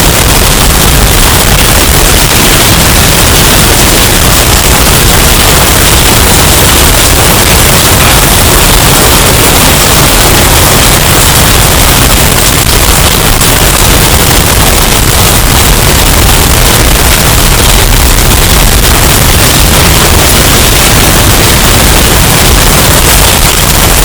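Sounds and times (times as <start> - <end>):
distorted roar of hurricane wind: 0.0 - 24.0.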